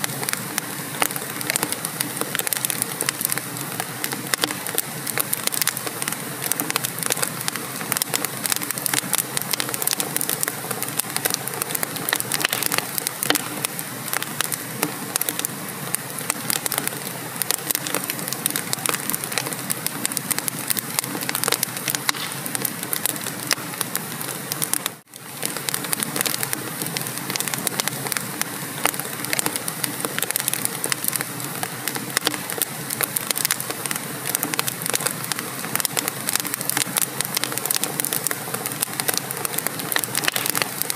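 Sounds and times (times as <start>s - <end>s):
steady hiss: 0.0s - 40.9s
wood fire crackling and popping: 0.0s - 40.9s.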